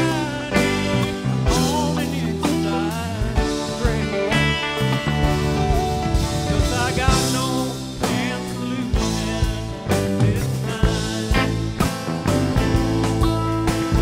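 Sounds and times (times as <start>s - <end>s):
acoustic guitar: 0.0s - 14.0s
bass: 0.0s - 14.0s
drum kit: 0.0s - 14.0s
electric guitar: 0.0s - 14.0s
keyboards: 0.0s - 14.0s.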